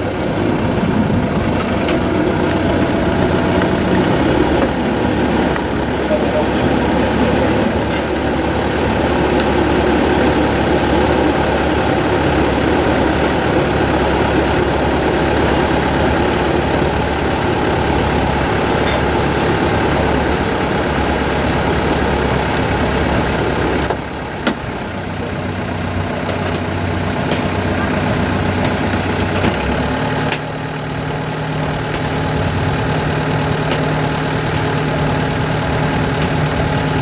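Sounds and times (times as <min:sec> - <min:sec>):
diesel boat engine running: 0:00.0 - 0:37.0.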